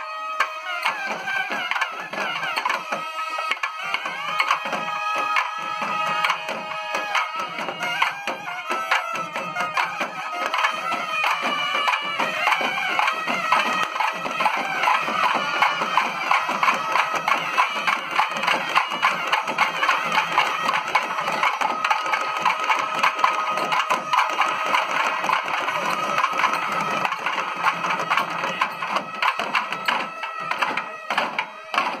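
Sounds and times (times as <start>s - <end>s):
barrel drums beaten fast: 0.4s - 32.0s.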